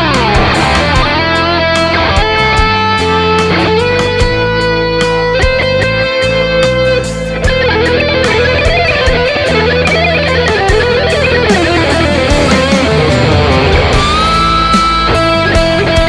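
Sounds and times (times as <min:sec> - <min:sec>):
backing track drums and bass: 0:00.0 - 0:16.0
electric guitar lead melody: 0:00.0 - 0:16.0.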